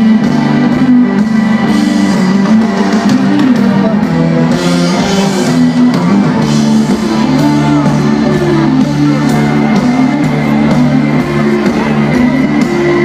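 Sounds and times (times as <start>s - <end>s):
low guitar riff: 0.0s - 13.0s
rock band playing live: 0.0s - 13.0s.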